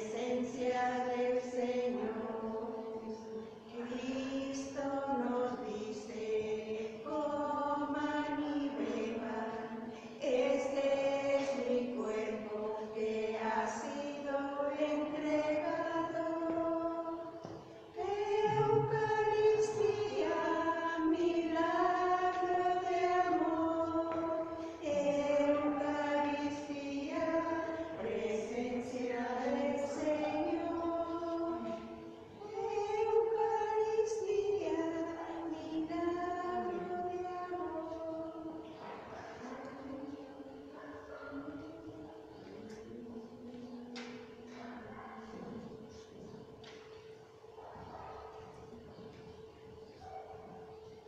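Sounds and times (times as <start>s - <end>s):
voices singing a slow hymn: 0.0s - 51.0s.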